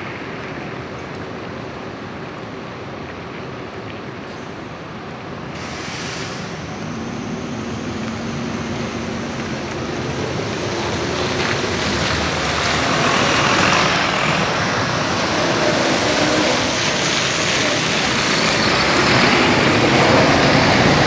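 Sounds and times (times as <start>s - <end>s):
tyres on wet slushy road: 0.0s - 21.0s
buses driving past: 3.6s - 21.0s.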